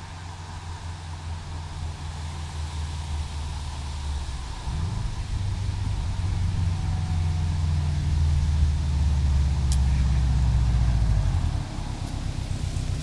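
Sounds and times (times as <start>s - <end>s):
car engine rumble passing by: 0.0s - 13.0s.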